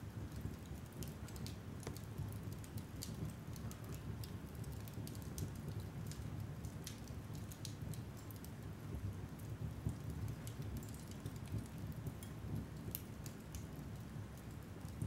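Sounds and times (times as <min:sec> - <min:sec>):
logs burning in a fireplace: 0:00.0 - 0:15.0.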